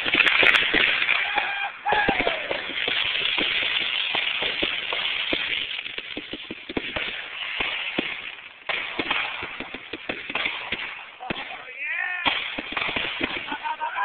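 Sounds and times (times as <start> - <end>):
firework fountain hissing: 0.0 - 11.3, 12.3 - 14.0
crackling pops: 0.0 - 13.9.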